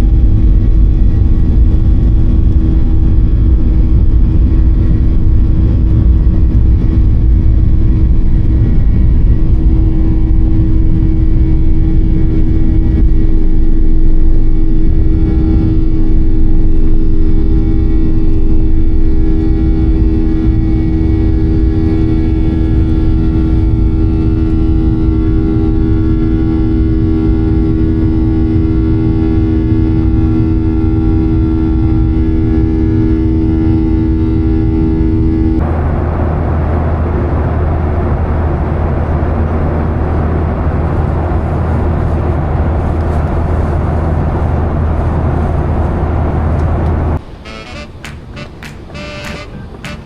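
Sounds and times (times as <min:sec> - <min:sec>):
airliner engines droning: 0:00.0 - 0:50.0.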